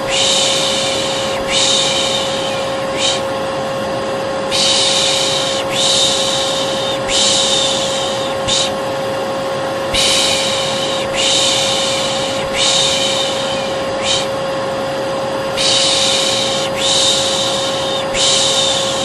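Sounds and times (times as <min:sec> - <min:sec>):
person shushing: 0:00.0 - 0:03.3, 0:04.5 - 0:08.8, 0:09.9 - 0:14.4, 0:15.5 - 0:19.0
hair dryer humming: 0:00.0 - 0:19.0.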